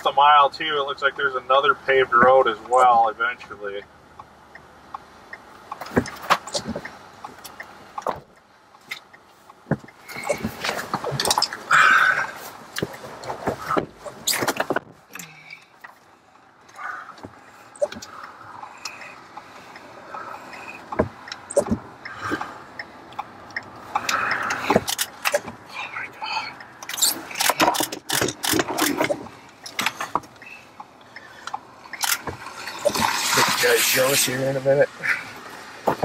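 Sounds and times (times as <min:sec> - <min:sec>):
clicks and knocks inside car: 0:01.9 - 0:03.0, 0:04.9 - 0:33.3, 0:35.0 - 0:36.0.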